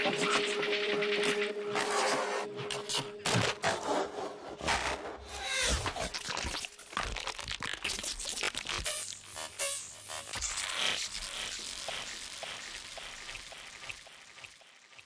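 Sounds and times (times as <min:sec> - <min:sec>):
electronic noise textures: 0:00.0 - 0:03.6, 0:06.0 - 0:15.0.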